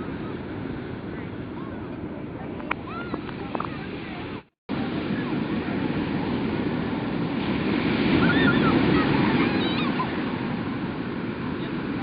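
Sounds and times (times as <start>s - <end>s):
ocean surf washing in: 0.0s - 12.0s
wind buffeting microphone: 0.0s - 12.0s.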